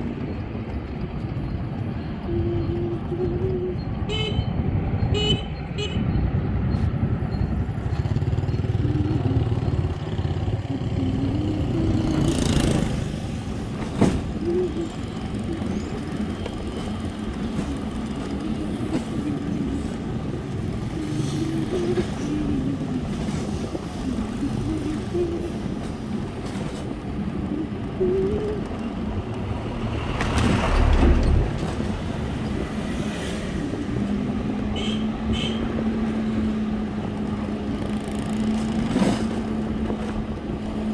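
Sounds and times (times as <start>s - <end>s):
low traffic rumble: 0.0s - 40.9s
road traffic engines: 0.0s - 40.9s
vehicles passing by: 0.0s - 40.9s.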